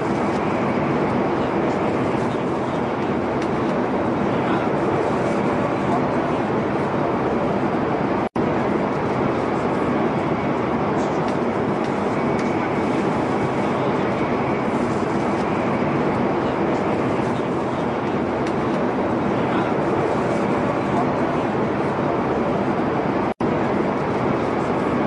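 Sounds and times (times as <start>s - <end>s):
metro train rumbling: 0.0s - 25.0s.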